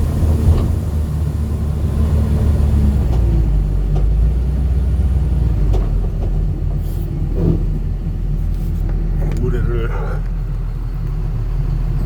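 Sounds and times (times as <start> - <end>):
heavy machine engine rumbling: 0.0 - 12.0.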